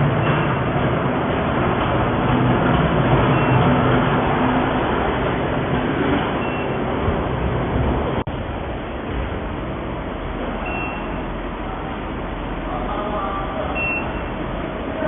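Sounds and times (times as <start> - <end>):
furnace running noise: 0.0 - 15.0.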